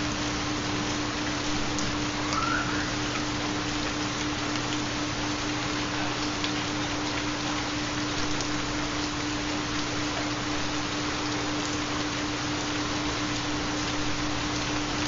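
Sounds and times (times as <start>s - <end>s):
rainfall hiss: 0.0s - 15.0s.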